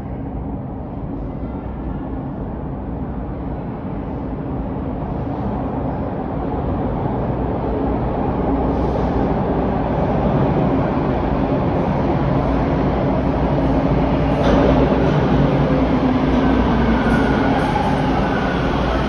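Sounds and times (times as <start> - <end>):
subway train rumble in tunnel: 0.0 - 19.0.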